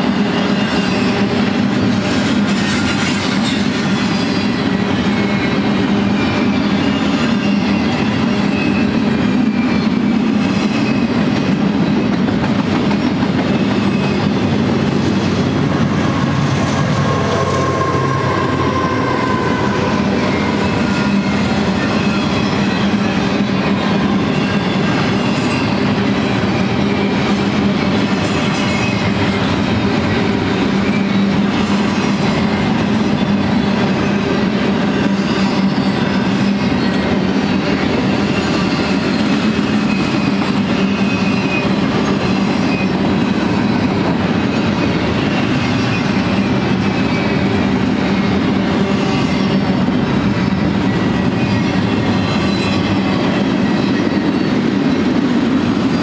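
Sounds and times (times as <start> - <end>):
train wheels rolling on rail: 0.0 - 56.0.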